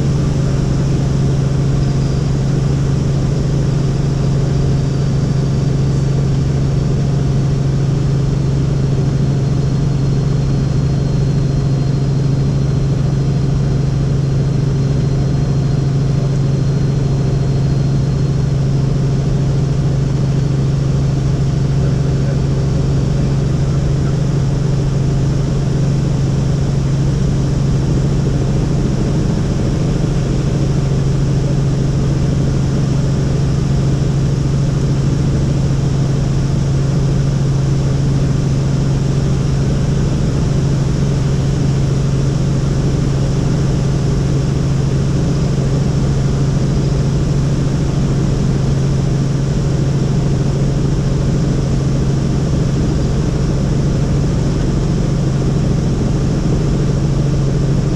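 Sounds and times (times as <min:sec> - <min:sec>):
helicopter flying: 0:00.0 - 0:57.9.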